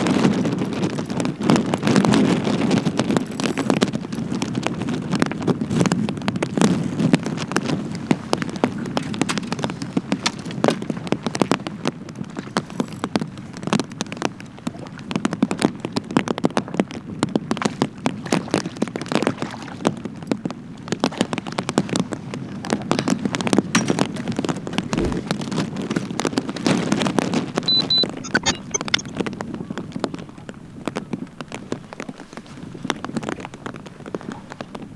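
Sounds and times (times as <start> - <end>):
rain drops on a boat: 0.0 - 24.7, 29.6 - 34.9.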